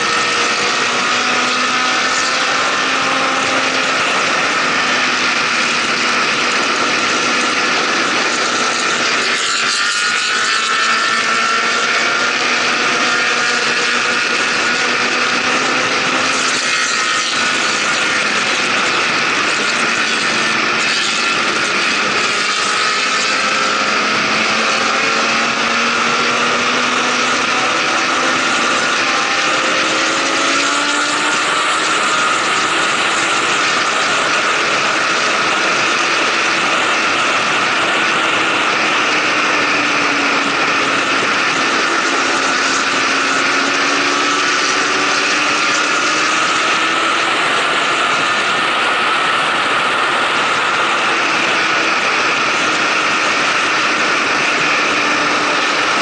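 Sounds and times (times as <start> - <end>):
motorcycle engine drone: 0.0 - 56.0
wind rush on microphone: 10.6 - 56.0.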